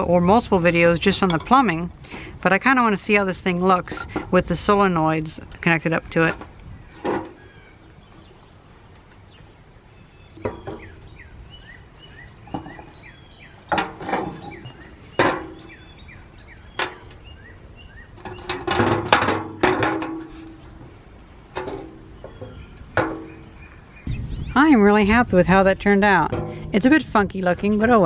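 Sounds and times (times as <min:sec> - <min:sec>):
birds chirping faintly: 0:00.0 - 0:18.8, 0:20.1 - 0:28.0.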